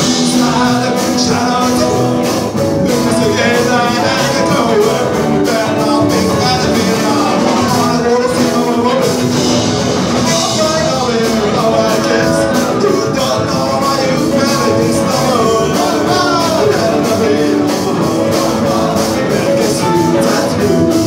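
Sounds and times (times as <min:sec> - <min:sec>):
drums: 0:00.0 - 0:21.0
guitar: 0:00.0 - 0:21.0
man singing: 0:00.0 - 0:21.0
upright double bass: 0:00.0 - 0:21.0.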